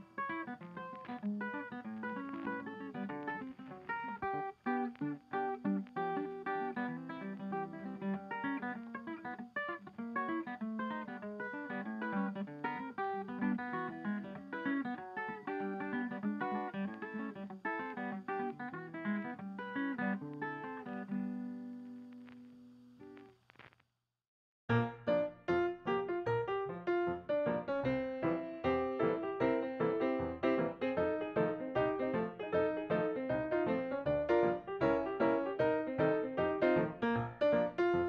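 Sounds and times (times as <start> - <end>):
acoustic guitar music: 0.0 - 23.3, 24.7 - 38.0.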